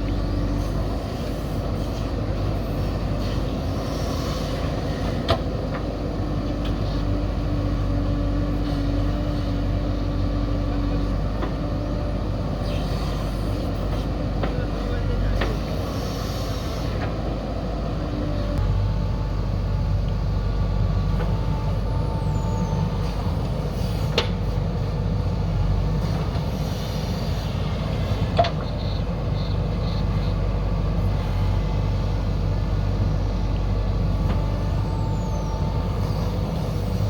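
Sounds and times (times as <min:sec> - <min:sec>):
construction machinery engine rumble: 0:00.0 - 0:37.0.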